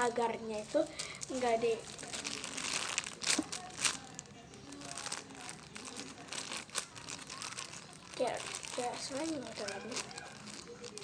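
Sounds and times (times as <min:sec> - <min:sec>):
plastic crinkling and rustling: 0:00.0 - 0:11.0.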